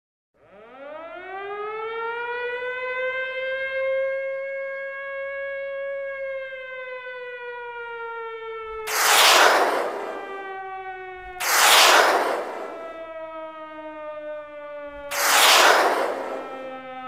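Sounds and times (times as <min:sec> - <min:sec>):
air-raid siren wailing: 0:00.4 - 0:17.0.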